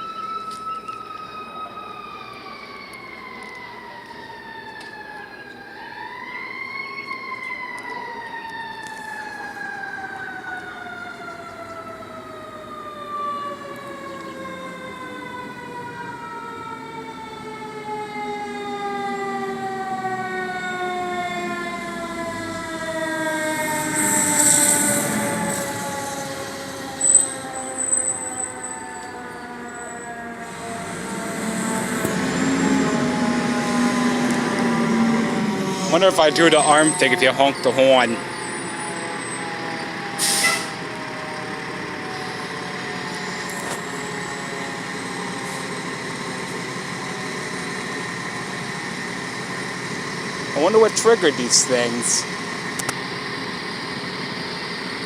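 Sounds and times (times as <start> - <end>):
mechanical siren winding down: 0.0 - 55.0.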